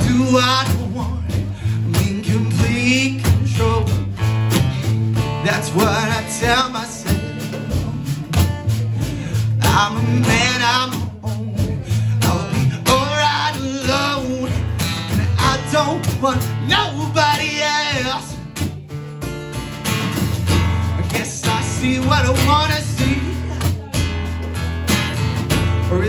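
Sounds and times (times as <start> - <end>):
acoustic guitar: 0.0 - 26.0
drums and cymbal beat: 0.0 - 26.0
man singing: 0.0 - 26.0.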